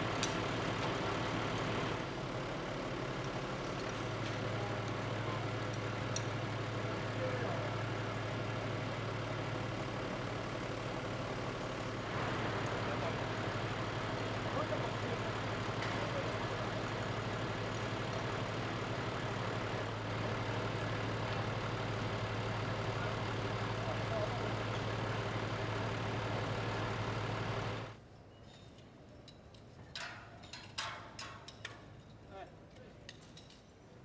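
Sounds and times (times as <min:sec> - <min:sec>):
machinery engine idling: 0:00.0 - 0:28.0.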